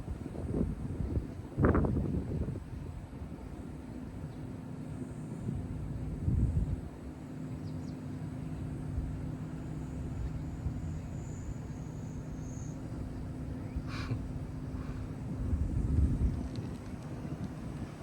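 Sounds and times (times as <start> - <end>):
constant low hum: 0.0 - 18.0
low outdoor rumble: 0.0 - 18.0.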